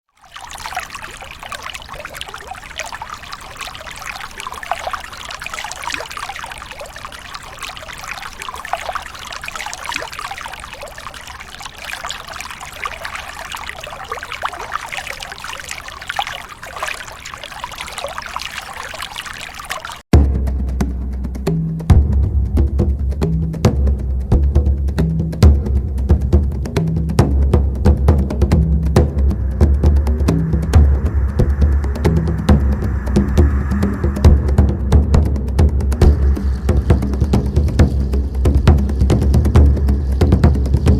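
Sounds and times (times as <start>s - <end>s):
water trickling and splashing: 0.0s - 22.0s, 22.6s - 40.9s.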